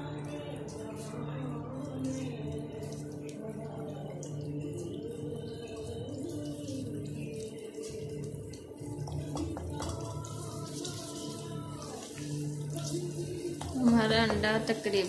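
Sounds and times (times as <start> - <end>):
eggs sizzling in oil: 0.0 - 15.0
soft background music: 0.0 - 15.0.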